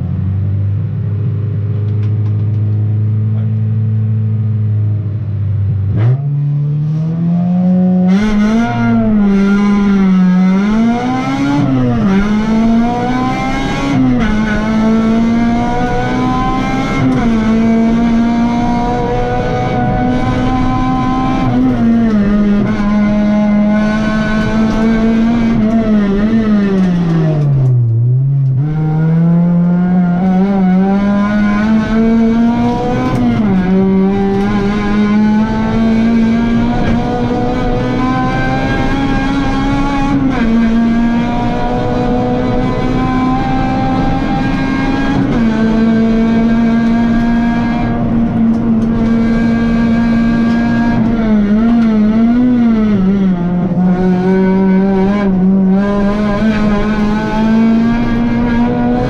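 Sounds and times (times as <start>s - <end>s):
race car engine revving: 5.9s - 59.0s.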